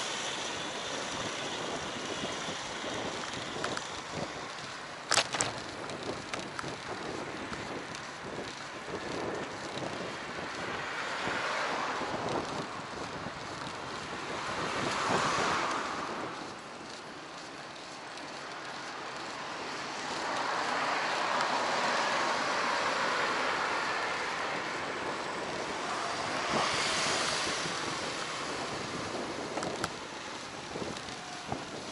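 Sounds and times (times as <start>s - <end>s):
wind rushing over microphone: 0.0s - 17.0s, 19.7s - 31.9s.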